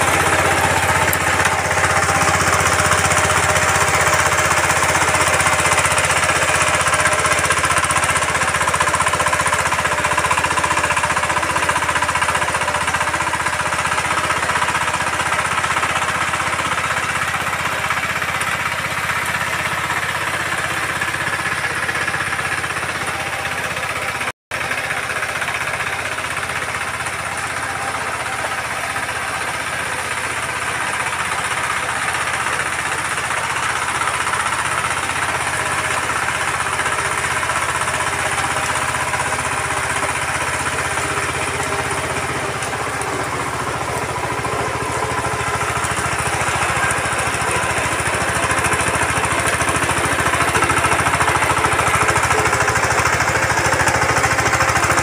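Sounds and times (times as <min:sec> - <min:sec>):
tiller engine running: 0:00.0 - 0:55.0
tines churning soil: 0:00.0 - 0:55.0.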